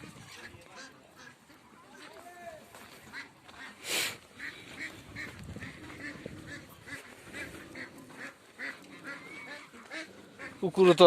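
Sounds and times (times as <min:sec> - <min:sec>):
ducks and geese calling: 0:00.0 - 0:11.0.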